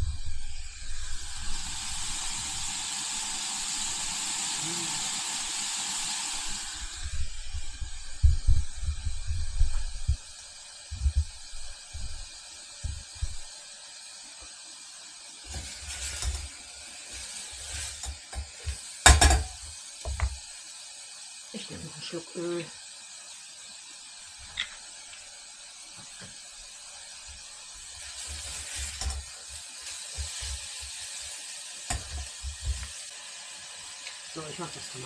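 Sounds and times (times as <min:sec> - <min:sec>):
meat sizzling in hot oil: 0:00.0 - 0:35.0.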